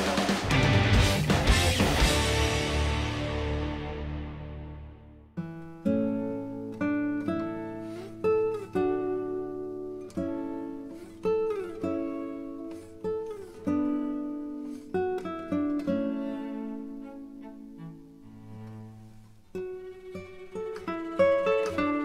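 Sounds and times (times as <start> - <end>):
acoustic guitar plucked notes: 0.2 - 22.0.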